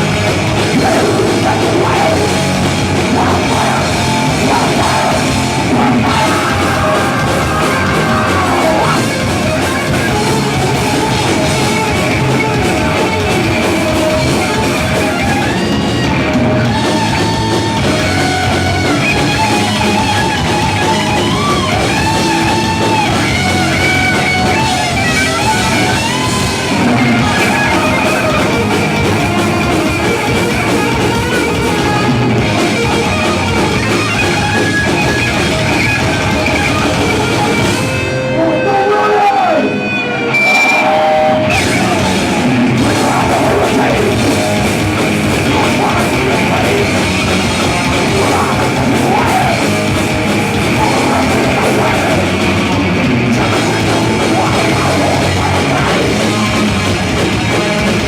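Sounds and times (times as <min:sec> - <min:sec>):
electric guitar bending notes: 0:00.0 - 0:58.0
heavy metal band playing: 0:00.0 - 0:58.0.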